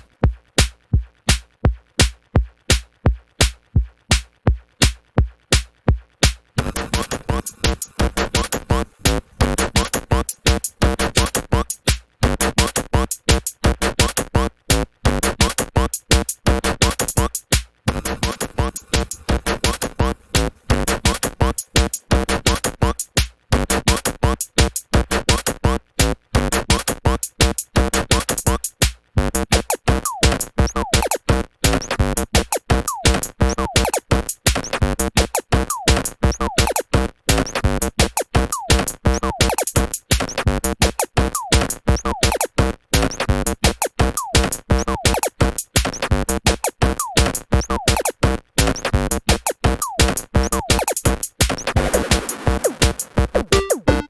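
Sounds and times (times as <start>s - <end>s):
electronic music with drum machine: 0.0s - 54.0s.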